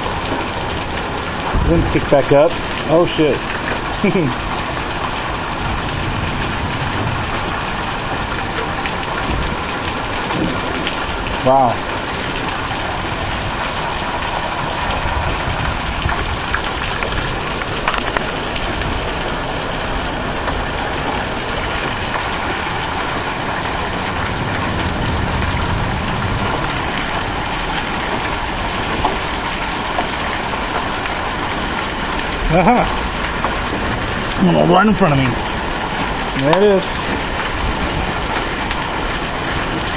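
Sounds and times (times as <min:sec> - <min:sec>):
wind rumbling on microphone: 0:00.0 - 0:34.4, 0:35.4 - 0:39.9
hail tapping: 0:00.0 - 0:39.9
heavy rain pouring: 0:00.0 - 0:39.9.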